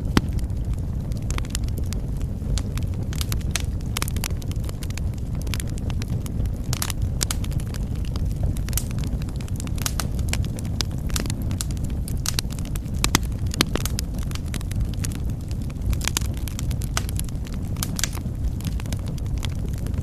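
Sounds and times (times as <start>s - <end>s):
fire crackles and pops: 0.0s - 20.0s
low roar of flames: 0.0s - 20.0s.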